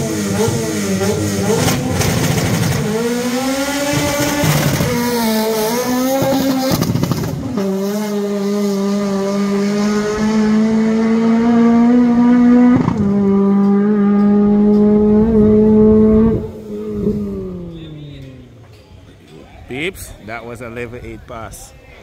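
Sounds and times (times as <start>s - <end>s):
drag car engine at high revs: 0.0s - 18.0s.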